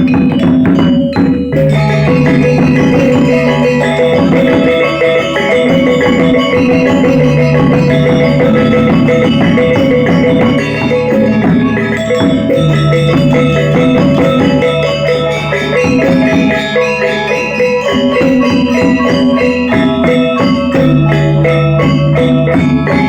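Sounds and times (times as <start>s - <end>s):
gamelan ensemble playing: 0.0s - 23.0s.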